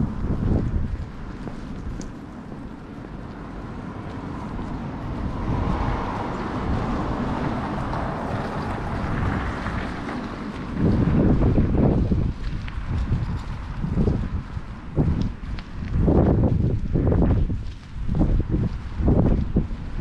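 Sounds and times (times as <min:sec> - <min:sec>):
car passing: 0:00.0 - 0:20.0
wind rumbling on microphone: 0:00.0 - 0:20.0.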